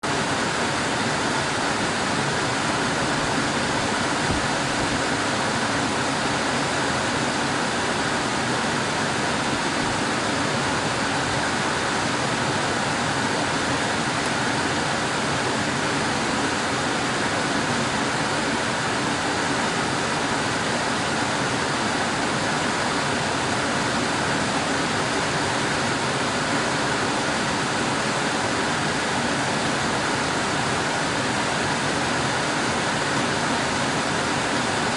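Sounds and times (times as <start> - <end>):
air conditioner blowing air: 0.0 - 34.9.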